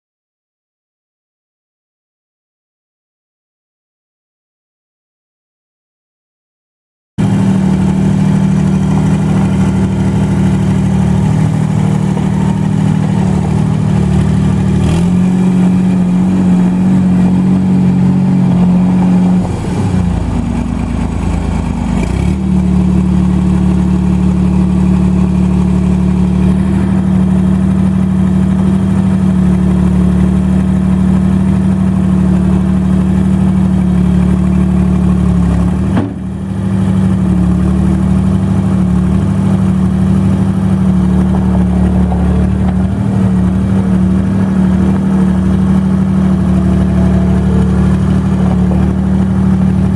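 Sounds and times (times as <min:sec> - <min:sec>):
diesel engine running: 0:07.2 - 0:49.9.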